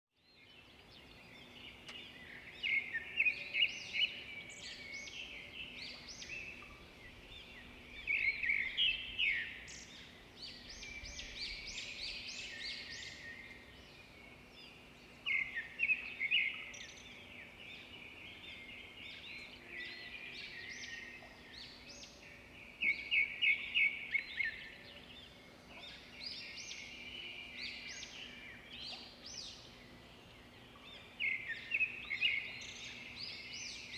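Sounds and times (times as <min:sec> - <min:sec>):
finches chirping and singing: 0:00.4 - 0:33.9.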